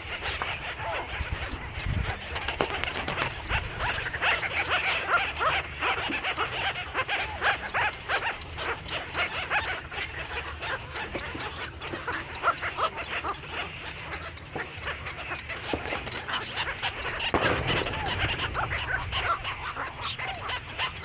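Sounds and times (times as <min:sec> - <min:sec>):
small birds chattering: 0:00.0 - 0:21.0.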